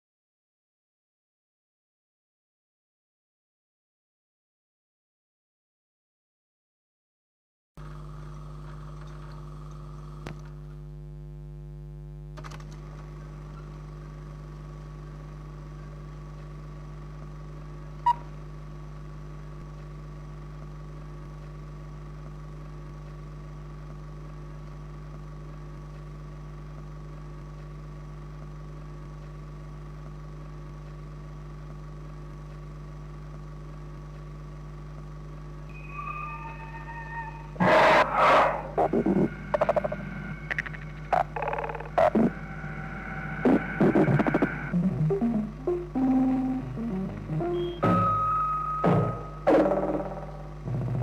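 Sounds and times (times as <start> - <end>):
film soundtrack hum and hiss: 7.8 - 51.0.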